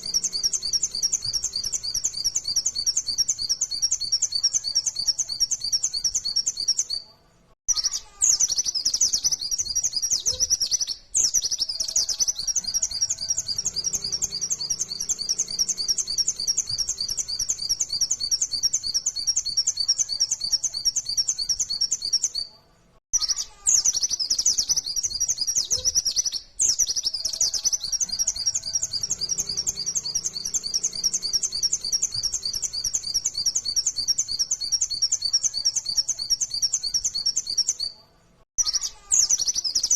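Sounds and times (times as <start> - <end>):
bird singing high sharp chirps: 0.0 - 7.0, 7.7 - 22.5, 23.1 - 38.0, 38.6 - 39.9.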